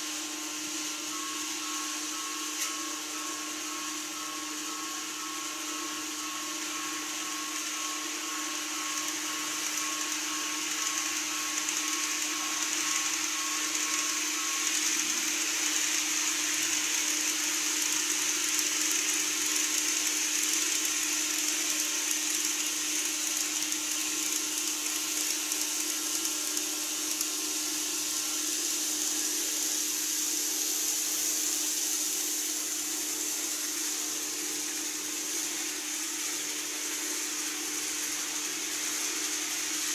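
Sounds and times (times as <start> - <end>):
model trains whirring: 0.0 - 39.9.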